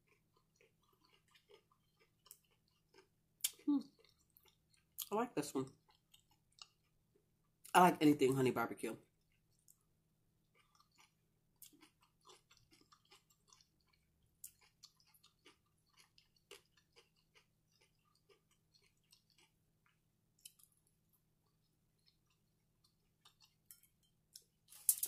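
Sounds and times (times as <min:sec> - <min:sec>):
person chewing: 0:00.0 - 0:07.7, 0:09.1 - 0:25.0.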